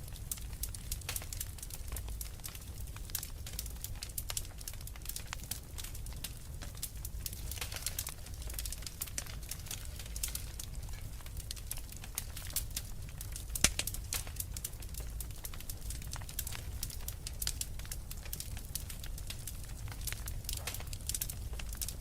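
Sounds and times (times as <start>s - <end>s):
low rumble of fire: 0.0s - 22.0s
wood fire crackling: 0.0s - 22.0s.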